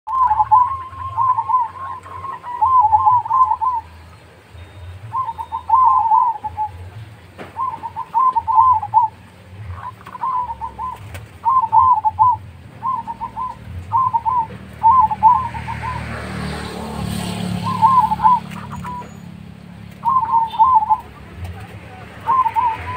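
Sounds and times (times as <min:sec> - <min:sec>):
dove cooing: 0:00.1 - 0:04.0, 0:05.0 - 0:22.9.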